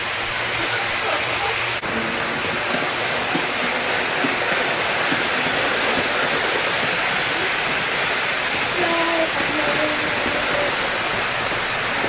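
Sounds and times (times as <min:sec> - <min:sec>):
model train wheels rumbling on track: 0:00.0 - 0:12.0.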